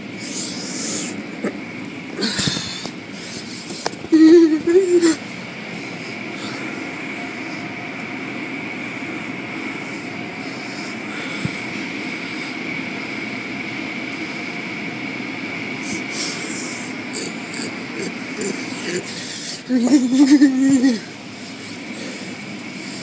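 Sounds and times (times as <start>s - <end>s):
car wash machinery running: 0.0s - 23.0s
high-pitched whine: 0.0s - 23.0s.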